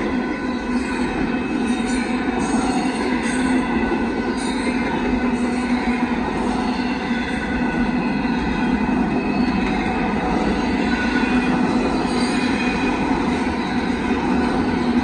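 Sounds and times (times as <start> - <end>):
freight train cars rumbling: 0.0 - 15.0.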